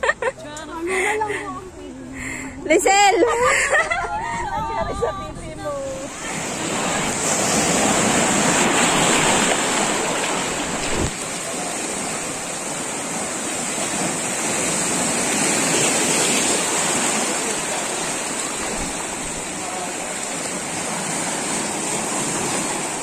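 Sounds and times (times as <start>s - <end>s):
surf rushing over boulders: 3.6s - 23.0s.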